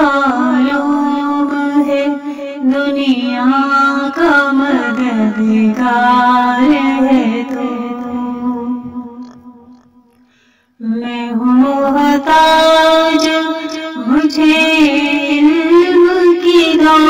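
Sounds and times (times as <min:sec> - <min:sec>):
person singing a melody: 0:00.0 - 0:09.5, 0:10.8 - 0:17.0.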